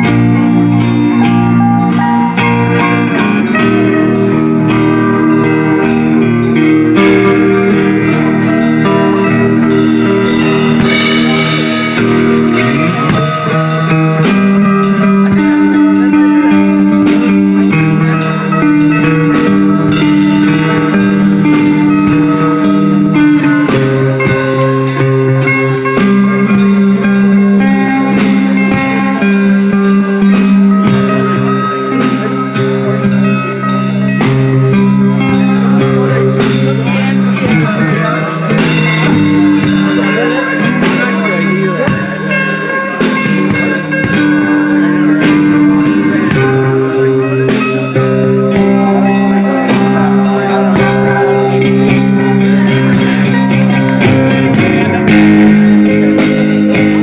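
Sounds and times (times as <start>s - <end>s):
guitar chords: 0.0s - 57.0s
steady drum beat: 0.0s - 57.0s.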